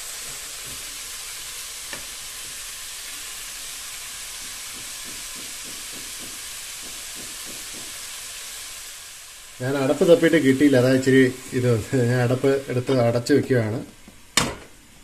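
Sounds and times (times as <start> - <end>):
stir-fry sizzling in a pot: 0.0 - 15.0.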